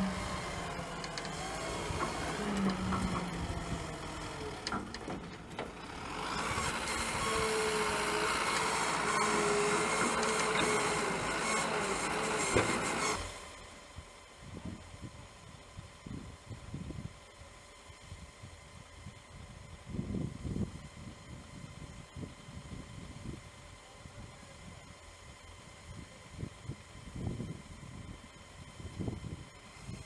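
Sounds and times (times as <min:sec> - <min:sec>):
excavator engine and hydraulics: 0:00.0 - 0:30.0.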